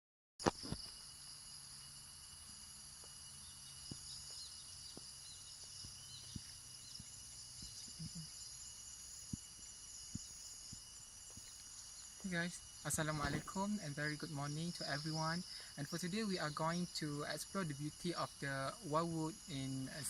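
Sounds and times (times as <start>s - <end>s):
forest insects chorus: 0.4s - 20.0s
faint chirps: 0.5s - 20.0s.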